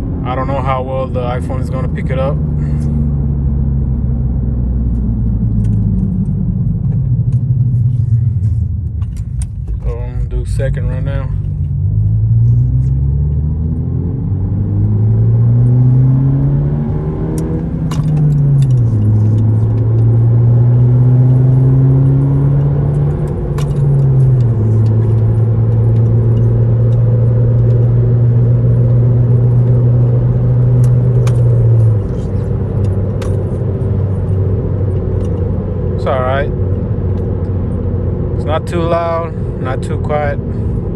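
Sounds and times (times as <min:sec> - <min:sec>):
car exhaust drone: 0:00.0 - 0:40.9.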